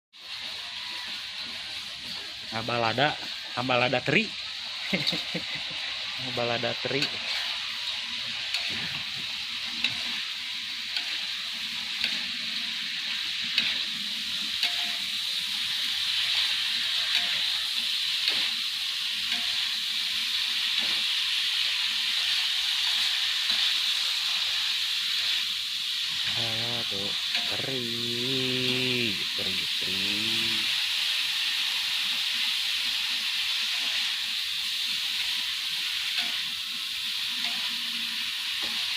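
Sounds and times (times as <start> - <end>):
fish sizzling in oil: 0.1 - 38.9.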